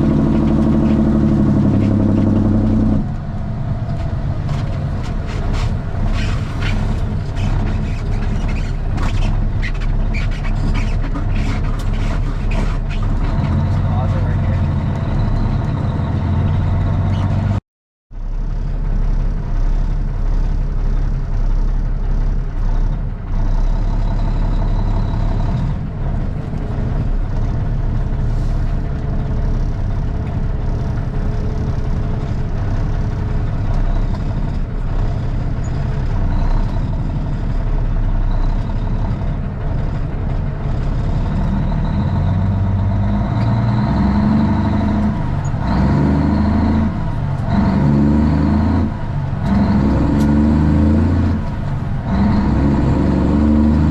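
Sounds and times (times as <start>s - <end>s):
diesel truck engine droning: 0.0s - 53.9s.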